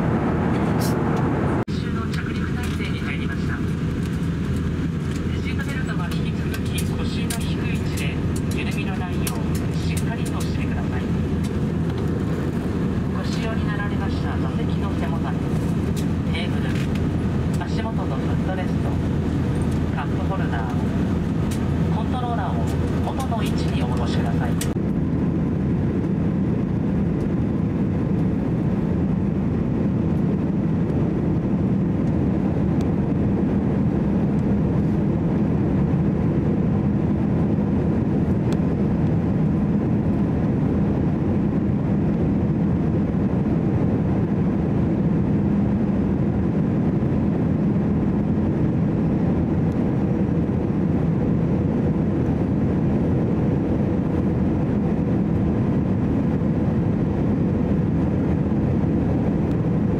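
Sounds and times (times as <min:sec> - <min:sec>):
drone of engines and airflow: 0:00.0 - 0:59.9.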